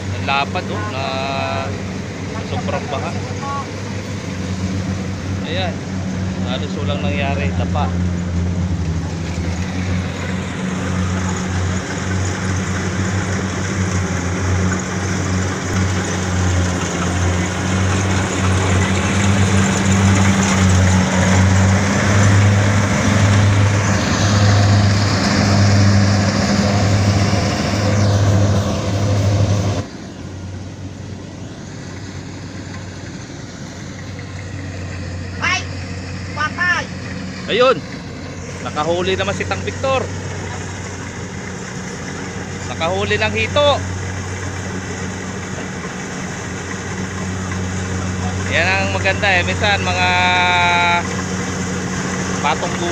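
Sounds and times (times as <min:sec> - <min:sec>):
combine harvester diesel engine: 0:00.0 - 0:52.9.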